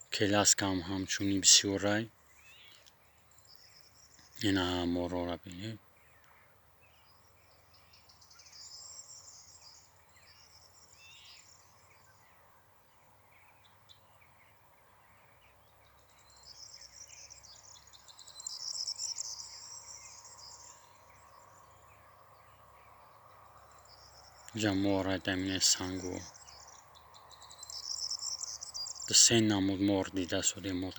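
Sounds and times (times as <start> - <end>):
faint bird chirps: 0.0 - 30.9.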